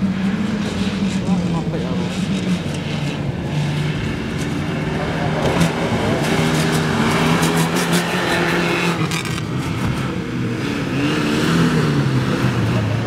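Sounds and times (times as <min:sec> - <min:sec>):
race car engine running hard: 0:00.0 - 0:13.0.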